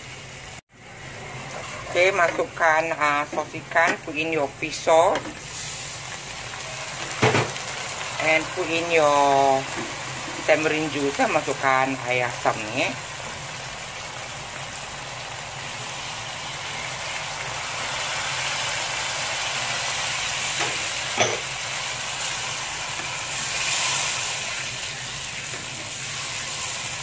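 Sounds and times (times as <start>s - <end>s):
liquid sizzling in a wok: 0.0s - 27.0s.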